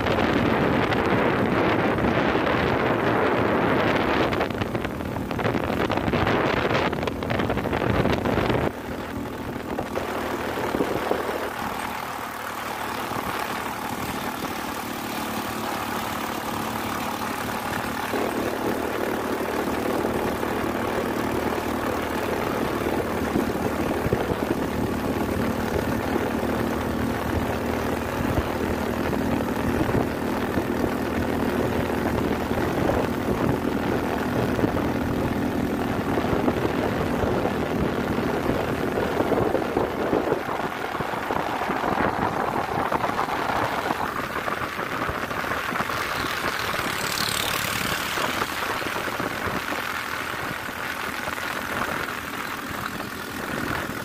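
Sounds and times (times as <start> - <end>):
scooter engine running: 0.0 - 54.0
wind buffeting microphone: 0.0 - 54.0.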